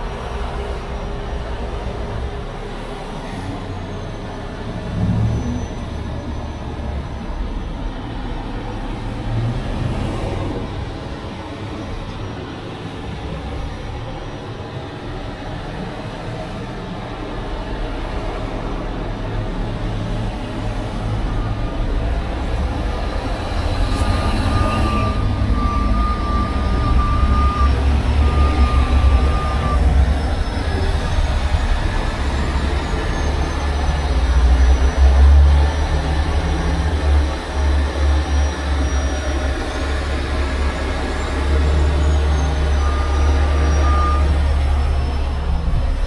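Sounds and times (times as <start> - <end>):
truck engine rumble: 0.0 - 46.0.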